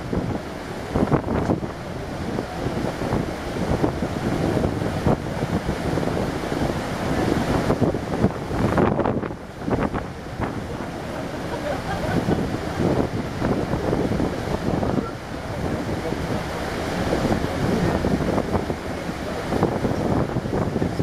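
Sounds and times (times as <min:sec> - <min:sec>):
sea water rushing along ship: 0:00.0 - 0:21.0
wind gusting across microphone: 0:00.0 - 0:21.0.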